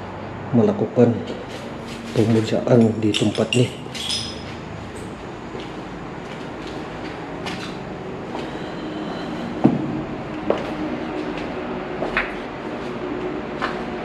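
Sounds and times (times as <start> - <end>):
low rumble of passing vehicle: 0.0 - 14.0.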